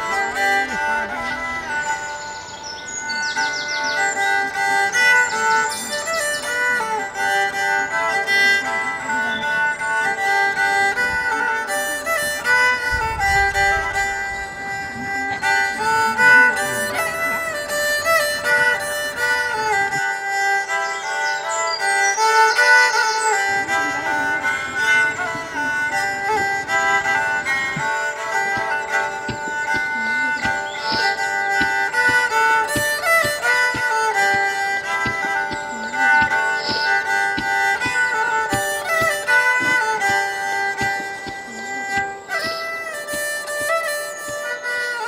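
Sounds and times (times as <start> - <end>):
instrumental background music: 0.0 - 45.0.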